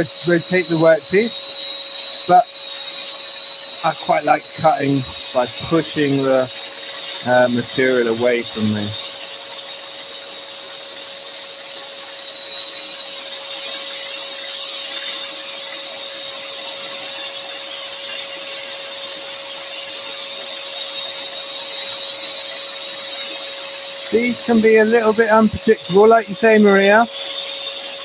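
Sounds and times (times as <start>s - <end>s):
scroll saw cutting wood: 0.0s - 28.0s.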